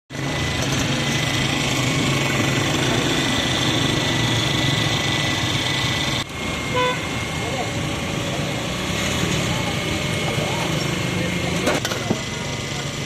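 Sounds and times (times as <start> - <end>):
small engine drone with whine: 0.1 - 13.0
street noise: 0.1 - 13.0.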